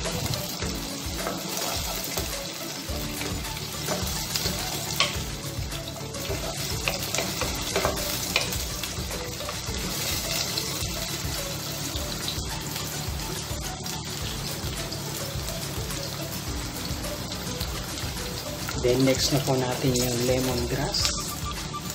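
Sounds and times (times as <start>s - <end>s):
vegetables sizzling in hot oil: 0.0s - 21.9s.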